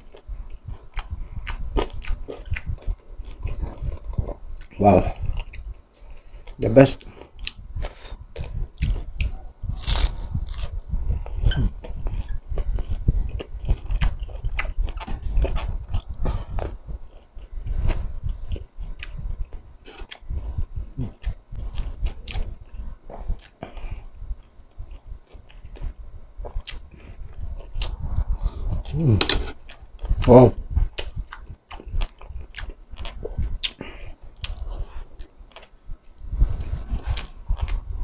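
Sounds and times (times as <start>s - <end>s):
crunchy chewing: 0.0s - 37.9s.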